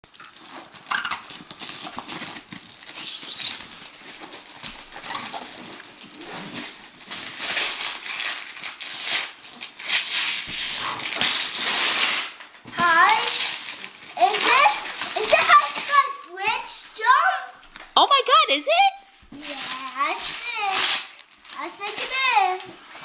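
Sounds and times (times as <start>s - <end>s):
wrapping paper tearing: 0.0s - 17.9s, 19.3s - 23.0s.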